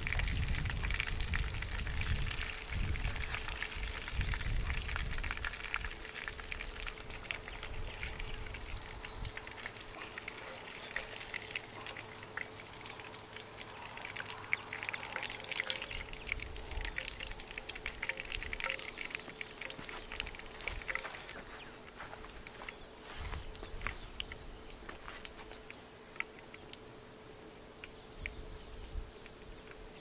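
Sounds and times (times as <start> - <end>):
oil sizzling and crackling: 0.0 - 30.0.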